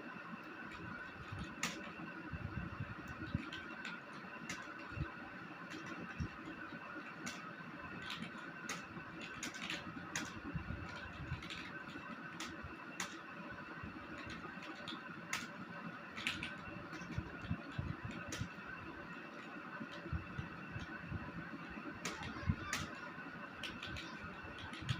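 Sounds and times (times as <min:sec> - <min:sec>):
background hum: 0:00.0 - 0:24.9.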